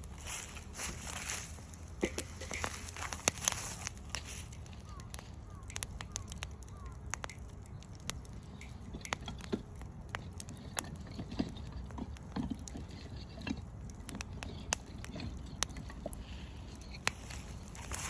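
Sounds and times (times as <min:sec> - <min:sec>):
firewood crackling and popping: 0:00.0 - 0:18.0
low fire rumble: 0:00.0 - 0:18.0.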